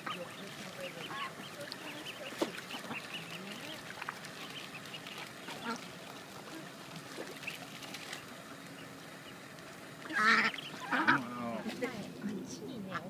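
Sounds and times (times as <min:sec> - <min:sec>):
duckling peeps: 0:00.0 - 0:09.4, 0:10.0 - 0:11.4
soft water sounds: 0:00.0 - 0:13.0.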